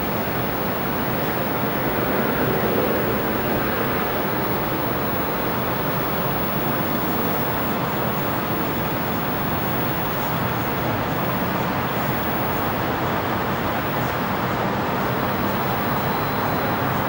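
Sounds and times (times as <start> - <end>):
city traffic: 0.0 - 17.0
idling vehicle engines: 0.0 - 17.0.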